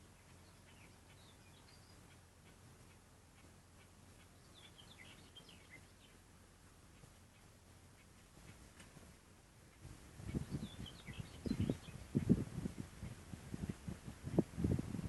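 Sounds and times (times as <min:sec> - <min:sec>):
faint birdsong: 0:00.0 - 0:14.5
faint low hum: 0:00.0 - 0:15.0.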